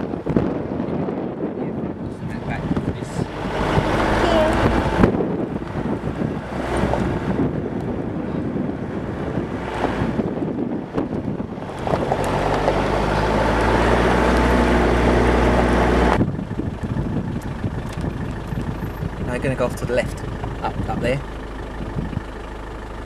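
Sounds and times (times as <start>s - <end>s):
wind buffeting microphone: 0.0s - 22.9s
car engine droning: 0.0s - 23.0s.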